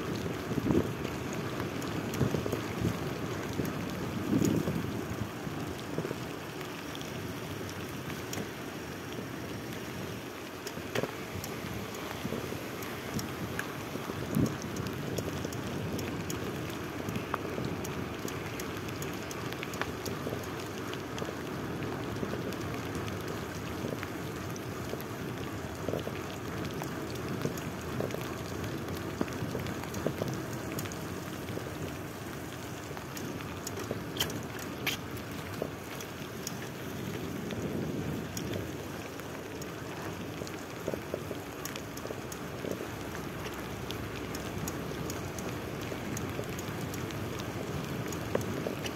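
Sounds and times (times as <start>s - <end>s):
bicycle tyres hissing on wet asphalt: 0.0s - 48.9s
rain: 0.0s - 48.9s
small ticks: 0.1s - 48.9s.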